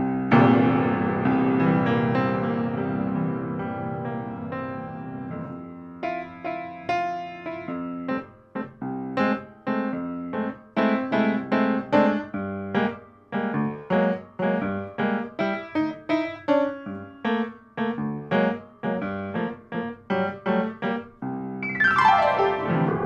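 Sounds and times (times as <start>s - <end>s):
solo piano playing: 0.0s - 23.0s.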